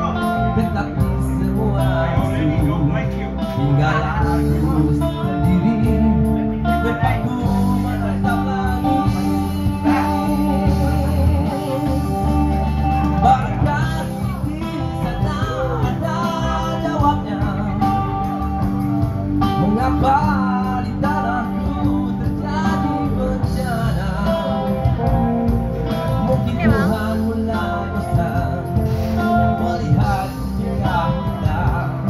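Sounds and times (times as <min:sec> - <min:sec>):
instrumental music: 0:00.0 - 0:32.0
man singing into a microphone: 0:00.0 - 0:32.0.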